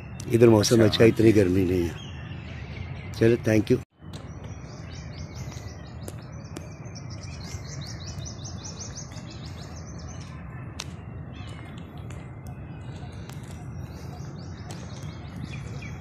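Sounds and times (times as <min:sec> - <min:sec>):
birds chirping: 0:00.0 - 0:16.0
low outdoor background noise: 0:00.0 - 0:16.0.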